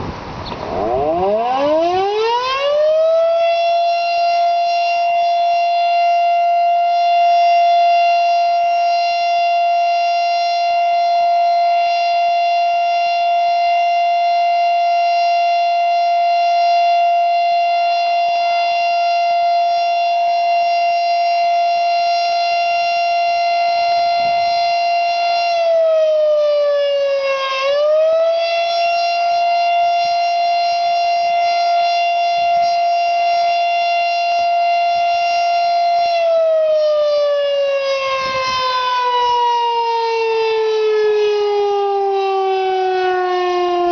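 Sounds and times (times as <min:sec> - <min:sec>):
warning siren: 0:00.0 - 0:43.9.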